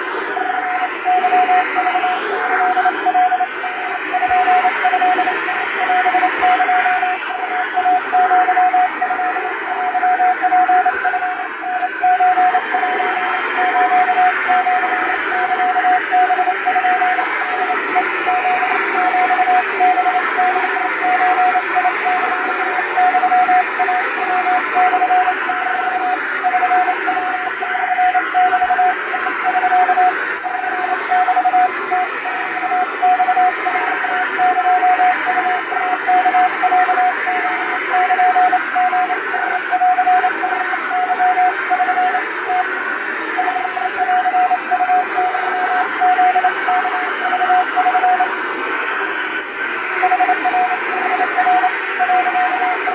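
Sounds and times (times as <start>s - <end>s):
morse code tone: 0.0s - 42.7s, 43.3s - 48.4s, 49.0s - 52.9s
radio noise hiss: 0.0s - 52.9s.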